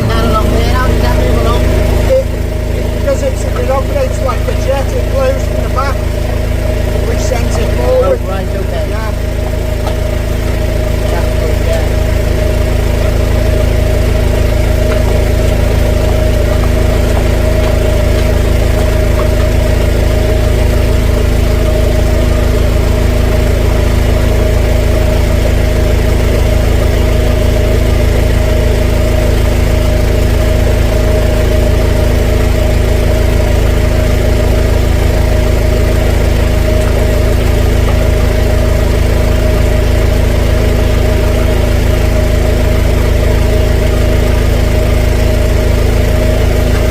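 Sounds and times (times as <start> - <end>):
drain jetter engine and pump running: 0.0 - 46.9.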